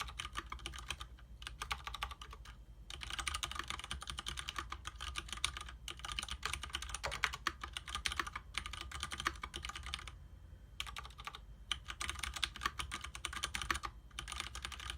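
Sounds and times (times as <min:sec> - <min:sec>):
mechanical keyboard typing clicks: 0:00.0 - 0:10.2, 0:10.8 - 0:14.9.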